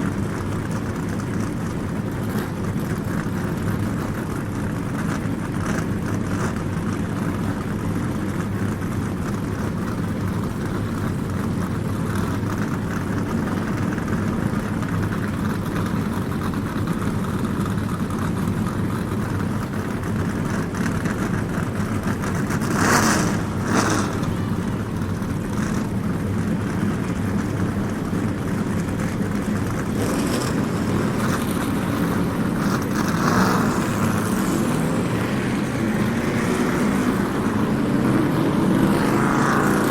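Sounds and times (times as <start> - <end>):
race car engines droning: 0.0 - 39.9.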